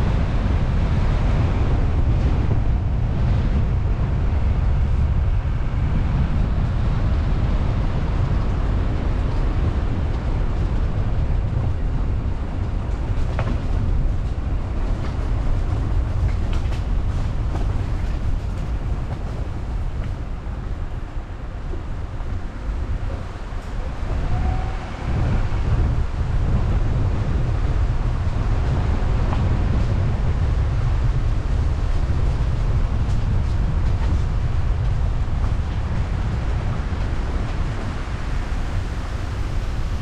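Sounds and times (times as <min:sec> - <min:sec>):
road and wind noise rumble: 0:00.0 - 0:40.0.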